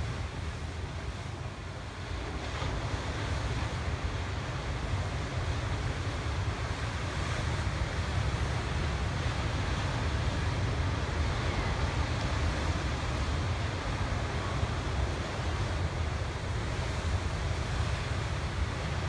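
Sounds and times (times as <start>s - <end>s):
ocean surf breaking over rocks: 0.0s - 19.0s
wind rumbling on microphone: 0.0s - 19.0s.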